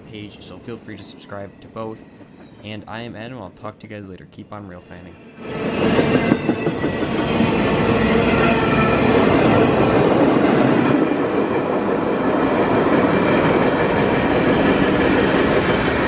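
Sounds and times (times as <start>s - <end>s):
train wheels rumbling on rail: 0.0s - 3.8s, 5.4s - 16.0s.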